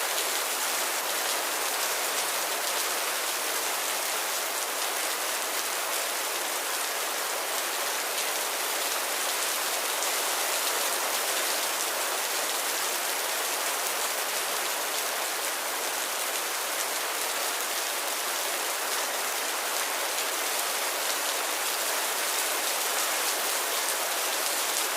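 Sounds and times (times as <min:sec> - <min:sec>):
light rain falling: 0:00.0 - 0:24.9.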